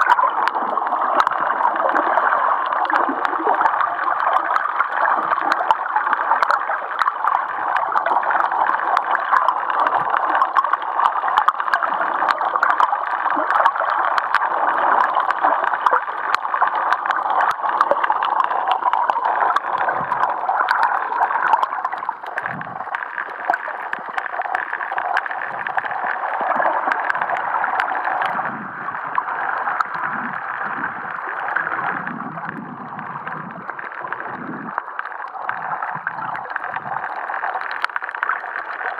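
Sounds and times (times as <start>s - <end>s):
fine underwater clicks: 0.0s - 38.9s
low water gurgles: 0.0s - 38.9s.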